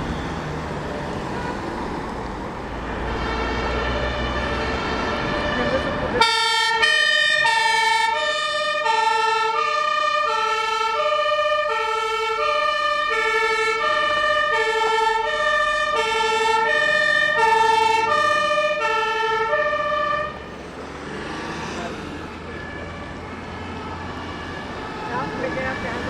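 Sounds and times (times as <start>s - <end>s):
two-tone emergency siren: 2.8s - 20.6s, 22.3s - 26.0s.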